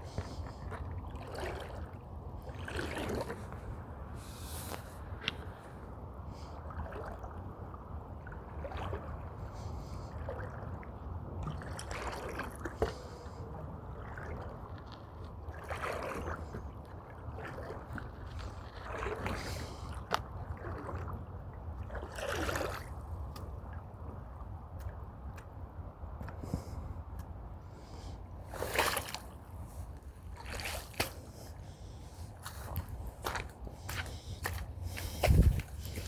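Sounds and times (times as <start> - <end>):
creek water trickling and gurgling: 0.0 - 36.0.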